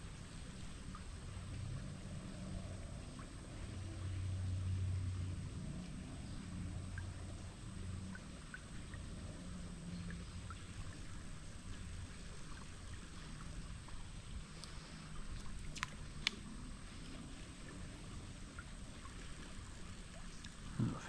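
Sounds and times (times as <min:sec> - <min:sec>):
creek water rippling: 0:00.0 - 0:21.0.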